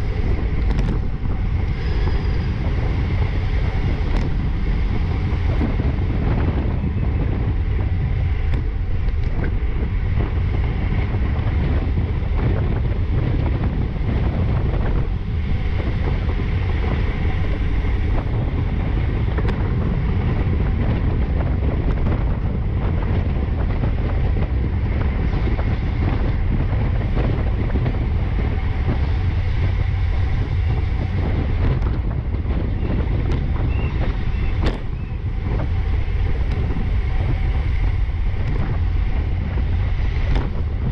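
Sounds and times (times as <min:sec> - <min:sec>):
bicycle tyre and drivetrain noise: 0:00.0 - 0:40.9
wind buffeting microphone: 0:00.0 - 0:40.9.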